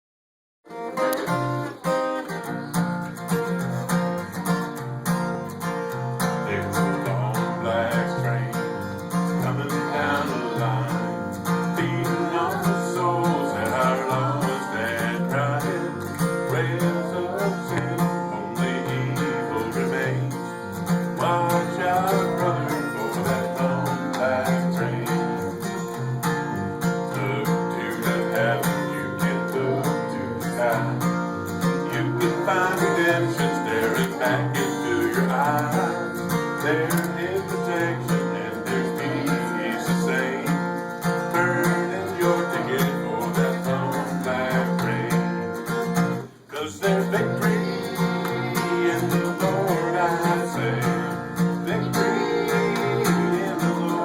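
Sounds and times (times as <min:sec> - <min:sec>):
acoustic guitar: 0:00.7 - 0:54.0.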